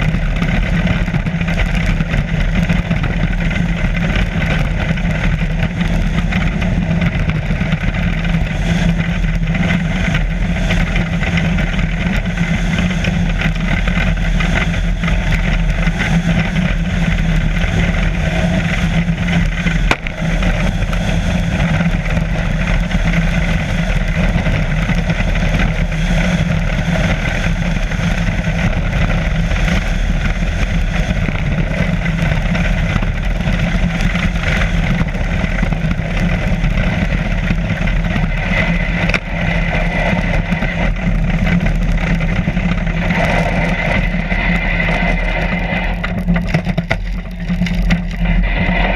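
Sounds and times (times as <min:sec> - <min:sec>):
bobsleigh runners on ice: 0:00.0 - 0:48.9.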